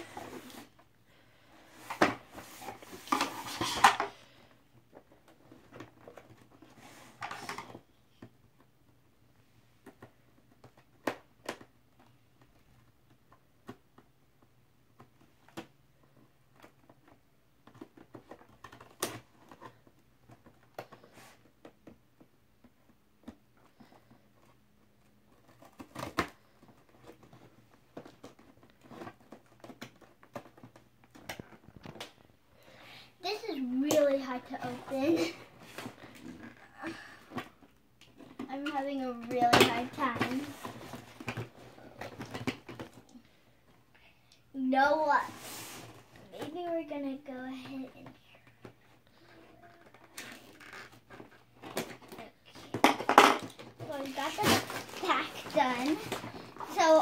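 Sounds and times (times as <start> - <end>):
box and plastic rustling: 0.0 - 8.7, 14.9 - 43.8, 45.2 - 57.0.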